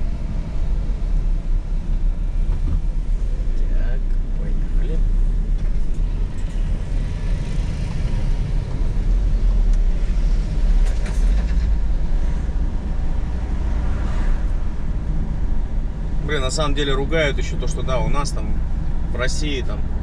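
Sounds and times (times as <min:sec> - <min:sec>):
van engine and road rumble: 0:00.0 - 0:20.0.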